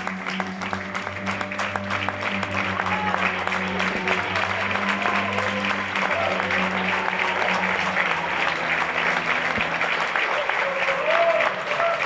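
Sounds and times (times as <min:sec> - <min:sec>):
audience applauding: 0:00.0 - 0:12.0
background music with low notes: 0:00.0 - 0:12.0.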